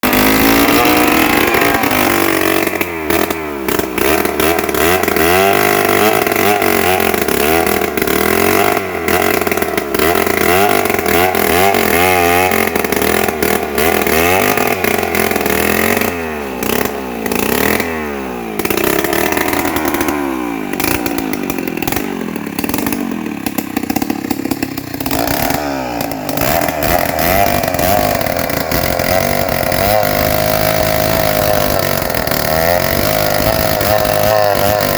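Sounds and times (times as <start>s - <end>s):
chainsaw cutting a log: 0.0s - 34.9s.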